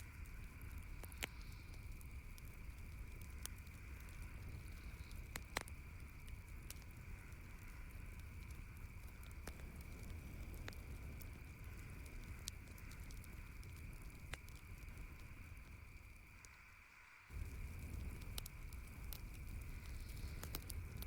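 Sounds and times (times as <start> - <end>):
campfire crackling and popping: 0.0 - 21.0
low background hiss: 0.0 - 21.0.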